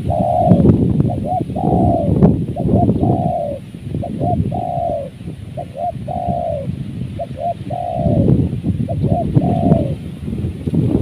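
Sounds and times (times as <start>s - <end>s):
dove cooing: 0.0s - 10.1s
wind buffeting microphone: 0.0s - 11.0s.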